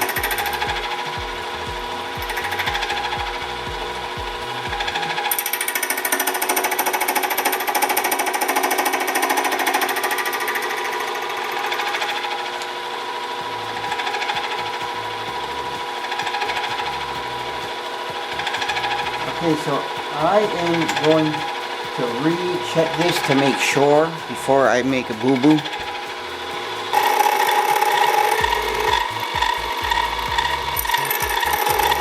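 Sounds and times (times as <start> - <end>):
high ringing of cutting metal: 0.0 - 32.0
metalworking machine whine and rattle: 0.0 - 32.0.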